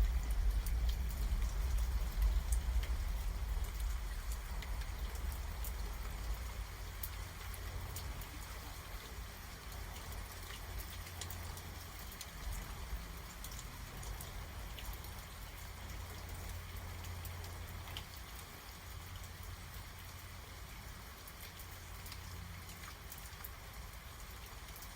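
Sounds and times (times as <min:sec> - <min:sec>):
low steady rumble: 0:00.0 - 0:24.9
rain hiss: 0:00.0 - 0:24.9
raindrops ticking: 0:00.0 - 0:24.9.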